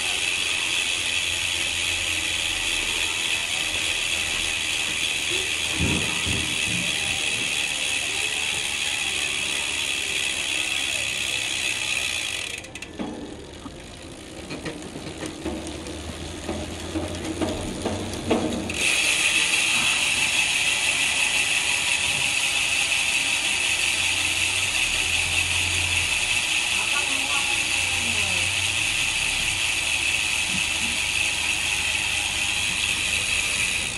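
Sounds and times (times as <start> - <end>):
freehub ratchet buzzing: 0.0 - 33.9
low running sound of hub: 0.0 - 33.9.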